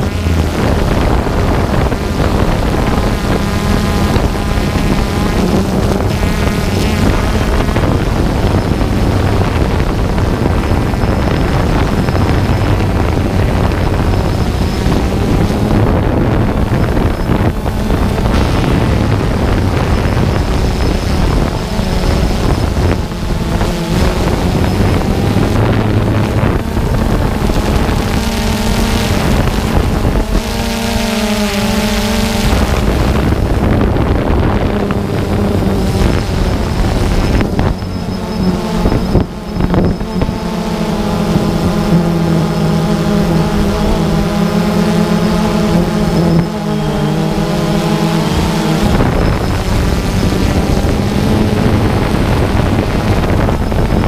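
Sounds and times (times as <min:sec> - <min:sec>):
drone propellers buzzing: 0:00.0 - 0:54.0
wind on microphone: 0:00.0 - 0:54.0.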